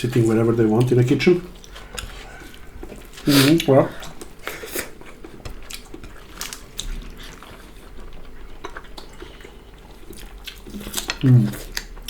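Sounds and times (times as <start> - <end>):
chewing and slurping: 1.5 - 12.0.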